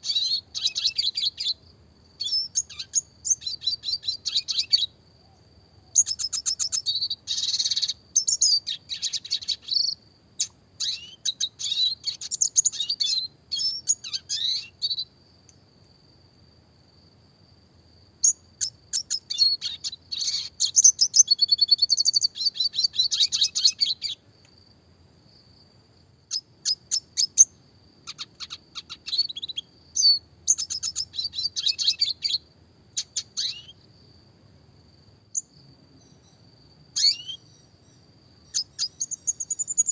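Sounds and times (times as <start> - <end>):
bird singing fast trills: 0.0 - 1.6, 2.2 - 15.2, 18.2 - 24.2, 26.3 - 33.9, 35.3 - 39.9.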